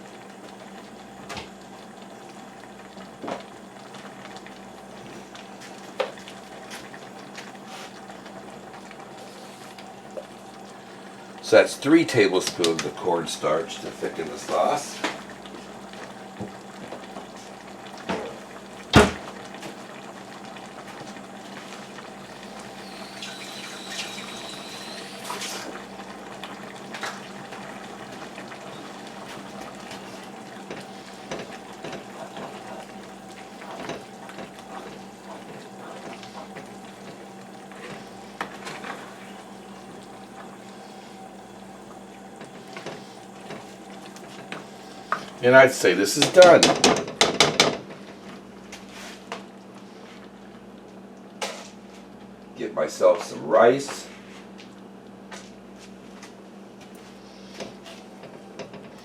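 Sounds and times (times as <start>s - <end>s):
sauce bubbling in a pot: 0.0s - 52.6s.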